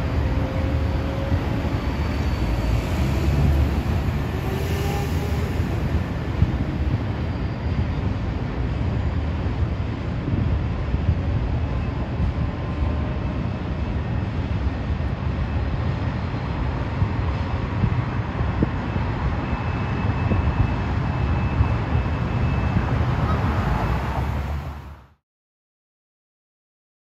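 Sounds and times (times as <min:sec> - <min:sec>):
train rumbling over a bridge: 0:00.0 - 0:25.2.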